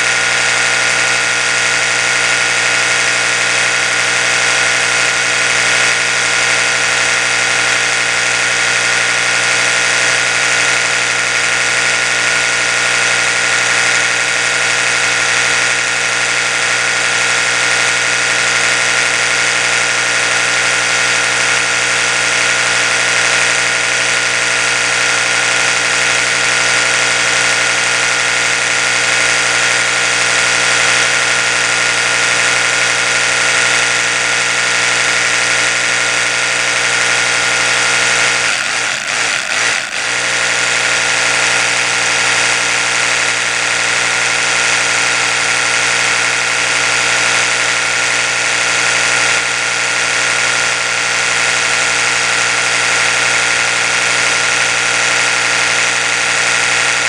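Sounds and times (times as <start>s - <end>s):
electric toothbrush motor hum: 0.0s - 57.0s.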